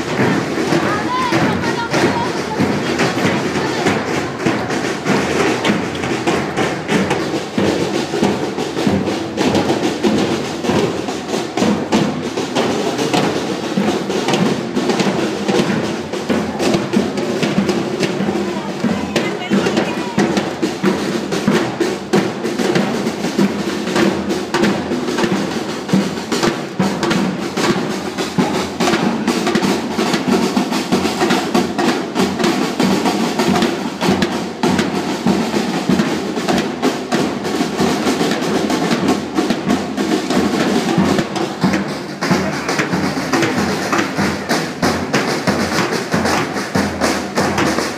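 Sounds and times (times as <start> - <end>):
snare drum beating: 0.0 - 47.9.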